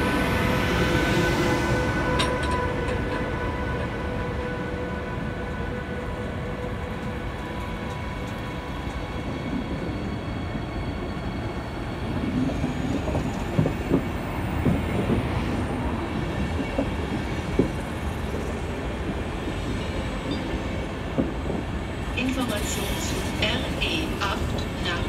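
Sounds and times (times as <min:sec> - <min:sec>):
train wheels rumbling on rails: 0:00.0 - 0:04.9, 0:05.5 - 0:25.0.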